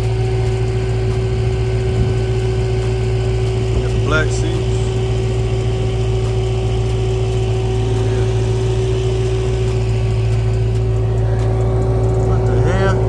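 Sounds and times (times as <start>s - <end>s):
car engine idling: 0.0s - 13.0s
steady hum: 0.0s - 13.0s.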